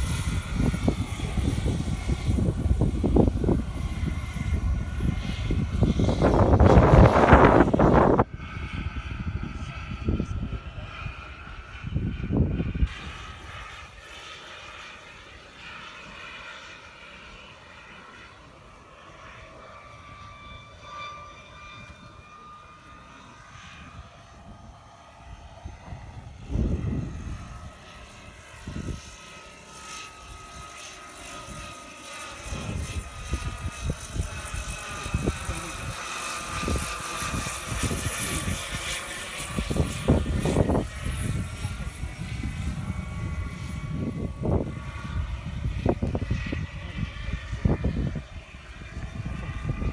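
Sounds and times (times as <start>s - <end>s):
model helicopter turbine whine: 0.0s - 49.9s.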